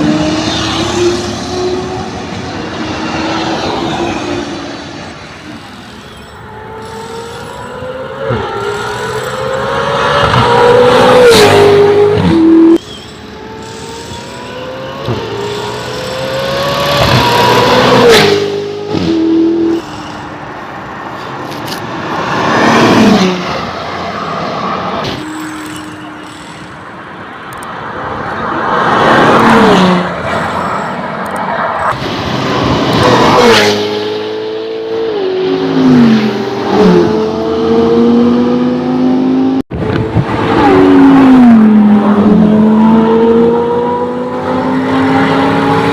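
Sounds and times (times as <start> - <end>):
car engines accelerating hard: 0.0 - 25.2, 26.6 - 45.9
cars passing by: 0.0 - 45.9.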